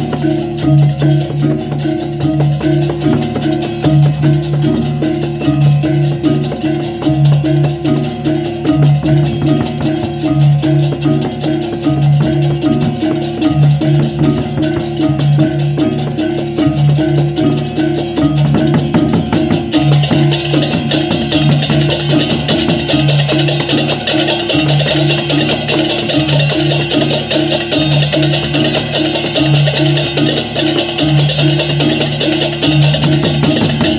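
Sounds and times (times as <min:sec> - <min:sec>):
clashing hand cymbals: 0:00.0 - 0:33.9
hand drums: 0:00.0 - 0:33.9.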